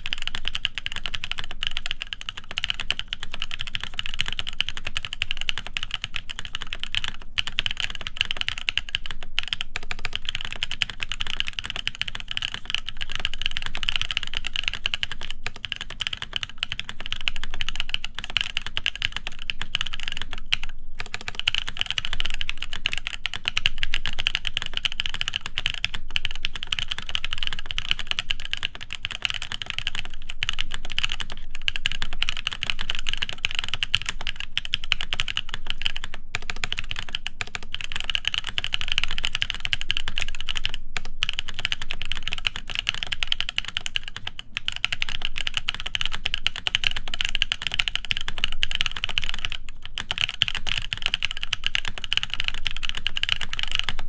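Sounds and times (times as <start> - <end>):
fast mechanical keyboard typing: 0.0 - 54.0.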